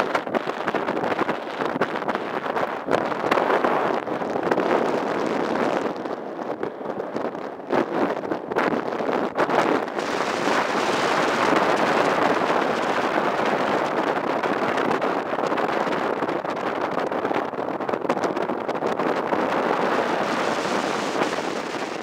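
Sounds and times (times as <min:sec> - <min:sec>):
wind and sea rushing: 0:00.0 - 0:22.0
wind buffeting microphone: 0:00.0 - 0:22.0.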